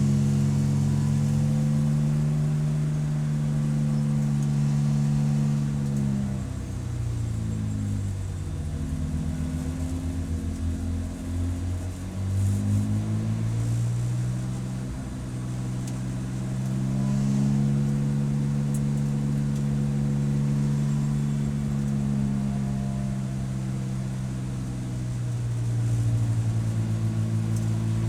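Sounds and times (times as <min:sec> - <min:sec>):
race car engine: 0:00.0 - 0:28.0.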